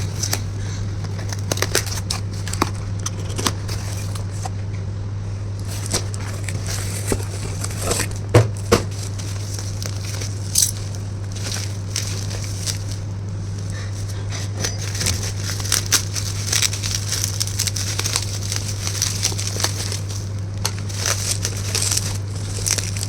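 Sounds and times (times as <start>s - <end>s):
packaging crinkling: 0.0s - 4.6s, 5.4s - 23.0s
steady low hum: 0.0s - 23.0s.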